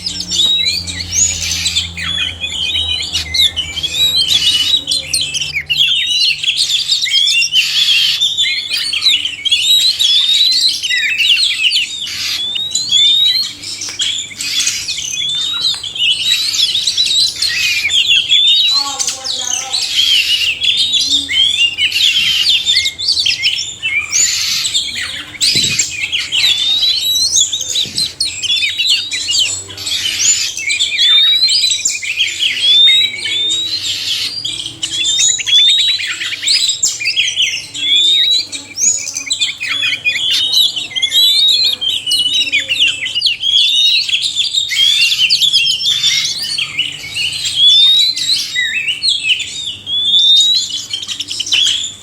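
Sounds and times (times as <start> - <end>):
birds whistling and chirping: 0.0 - 52.0.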